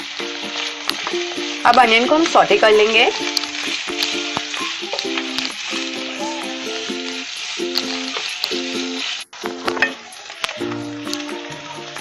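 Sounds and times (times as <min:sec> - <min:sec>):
onions sizzling in hot oil: 0:00.0 - 0:12.0
stirring clicks: 0:00.0 - 0:12.0.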